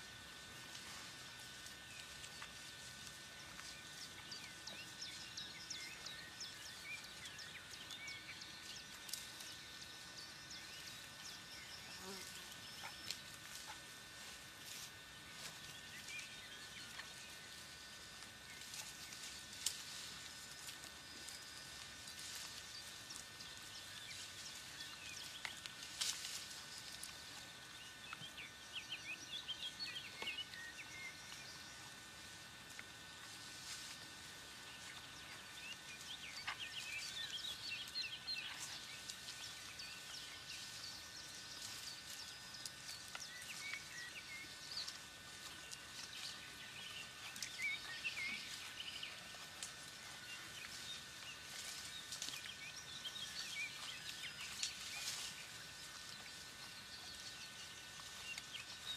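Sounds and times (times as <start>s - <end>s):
small birds chirping: 0.3s - 58.9s.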